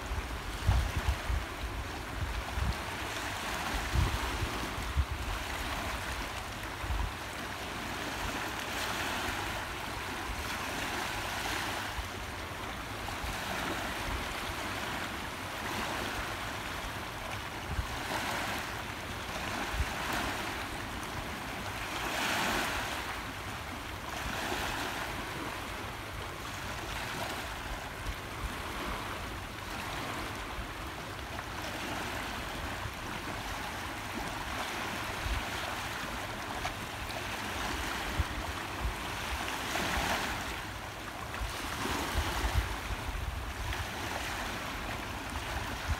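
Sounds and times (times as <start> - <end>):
small waves lapping on shore: 0.0 - 45.9.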